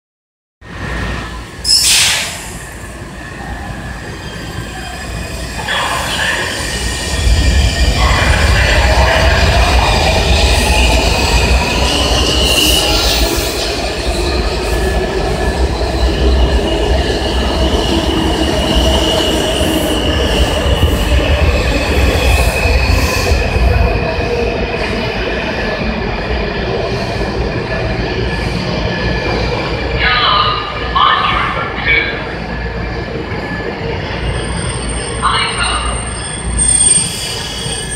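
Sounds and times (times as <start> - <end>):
train rumbling: 0.6 - 37.9.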